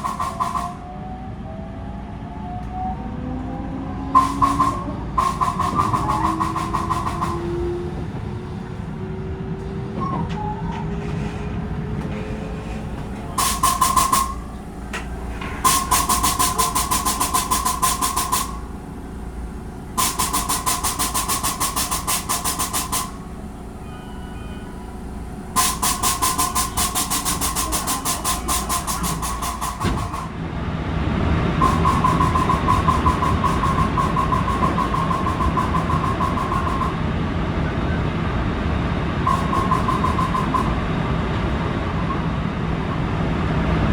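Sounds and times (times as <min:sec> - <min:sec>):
rapid clattering under train floor: 0:00.0 - 0:00.8, 0:04.2 - 0:23.8, 0:24.8 - 0:43.9
train running noise: 0:00.0 - 0:43.9.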